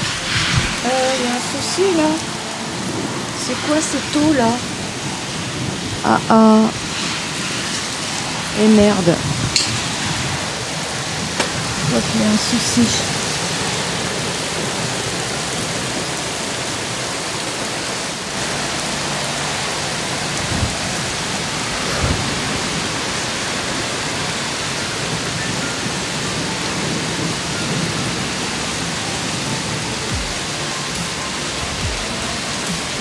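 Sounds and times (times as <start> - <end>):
heavy rain on muddy ground: 0.0 - 33.0.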